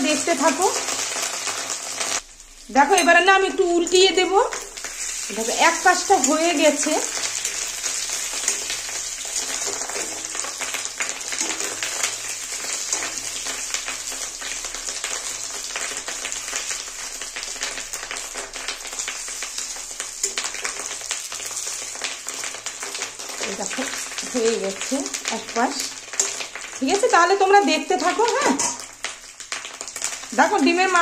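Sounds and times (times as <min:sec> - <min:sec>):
fish roe sizzling in oil: 0:00.0 - 0:31.0.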